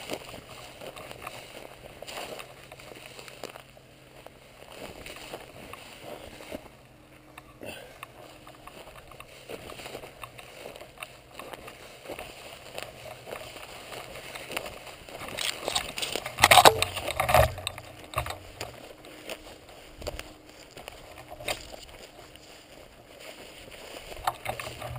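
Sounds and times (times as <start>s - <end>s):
footsteps through dry grass: 0.0s - 24.9s
rustling against microphone: 0.0s - 24.9s.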